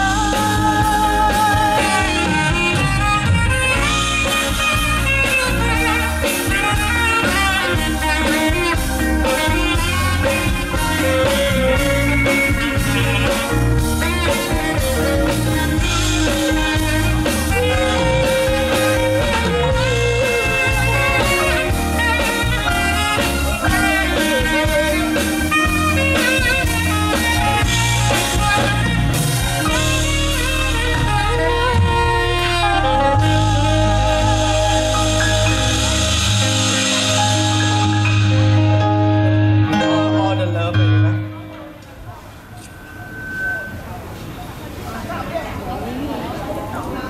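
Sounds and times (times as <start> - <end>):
heavy bass: 0.0 - 40.0
band playing pop song: 0.0 - 44.9.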